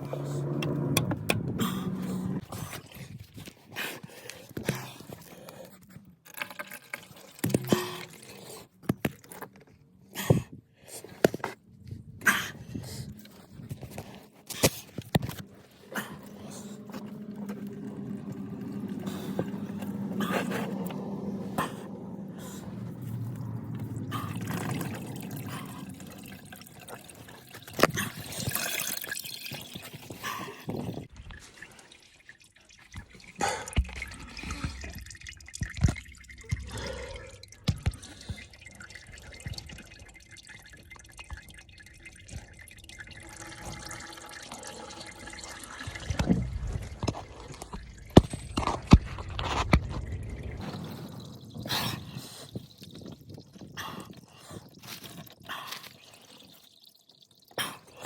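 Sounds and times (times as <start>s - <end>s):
oil pouring into a drain pan: 6.3s - 8.5s, 13.3s - 58.0s.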